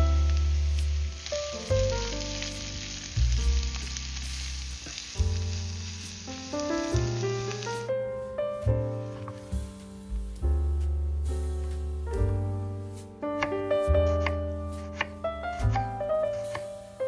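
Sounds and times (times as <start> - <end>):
food sizzling in frying pan: 0.0 - 10.0, 12.8 - 17.0
piano background music: 0.0 - 17.0.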